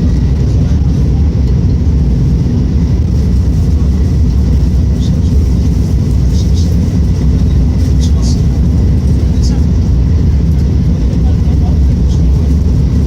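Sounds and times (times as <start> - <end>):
train cabin low rumble: 0.0 - 13.0.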